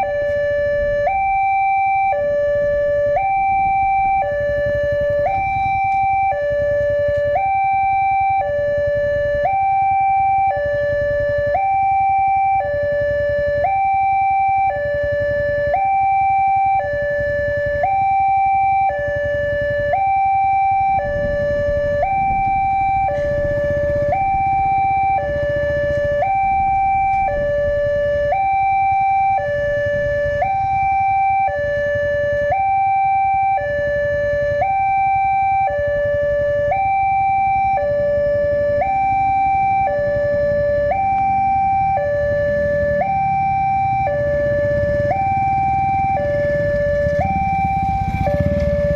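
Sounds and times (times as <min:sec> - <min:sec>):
level crossing two-tone alarm: 0:00.0 - 0:48.9
motorcycle engines rumbling: 0:00.0 - 0:48.9.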